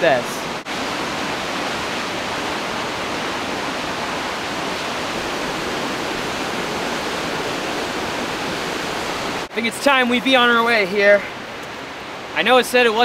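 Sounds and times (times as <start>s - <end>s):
waterfall rushing water roar: 0.0s - 13.0s.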